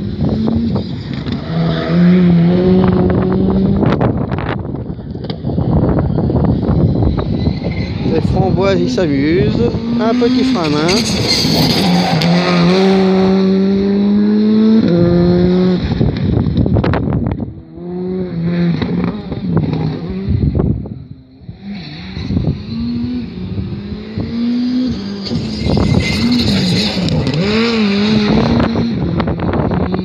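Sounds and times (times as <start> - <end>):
rally car engine at racing speed: 0.0 - 30.0.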